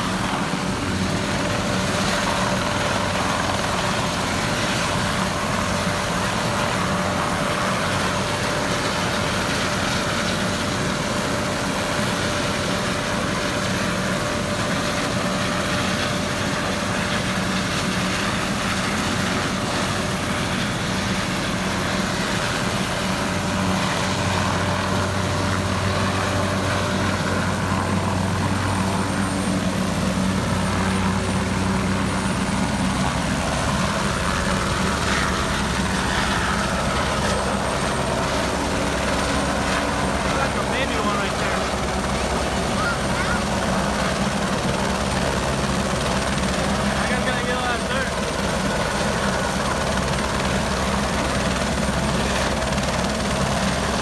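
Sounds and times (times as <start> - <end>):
helicopter turbine engine humming: 0.0 - 54.0.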